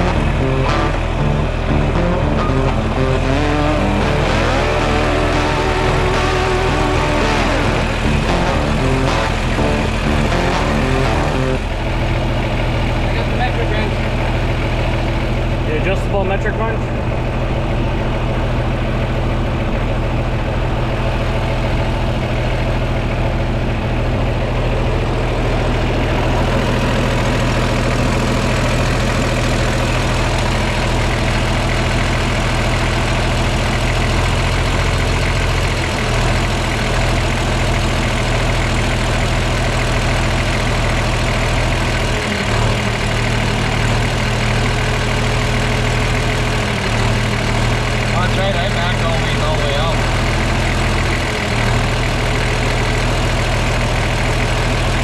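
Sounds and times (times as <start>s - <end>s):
diesel tractor engine idling: 0.0s - 55.0s.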